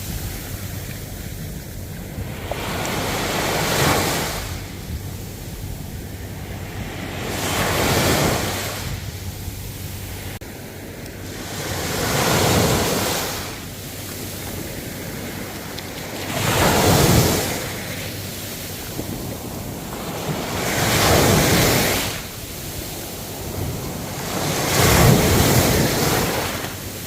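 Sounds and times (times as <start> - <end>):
ocean waves breaking: 0.0 - 27.0
wind rumble on microphone: 0.0 - 27.0.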